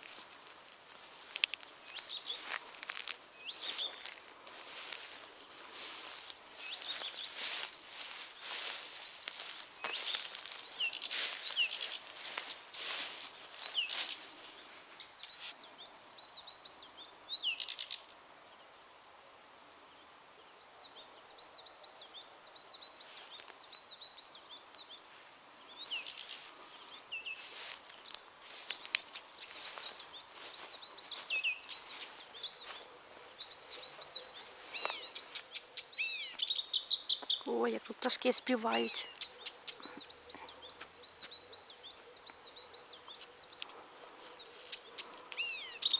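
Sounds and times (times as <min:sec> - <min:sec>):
songbirds chirping and singing: 0:00.0 - 0:18.8, 0:19.9 - 0:45.9.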